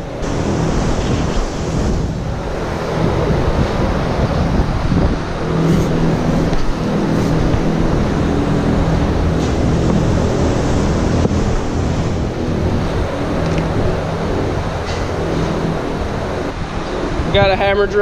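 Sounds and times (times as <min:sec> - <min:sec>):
loud rushing noise with low hum: 0:00.0 - 0:18.0.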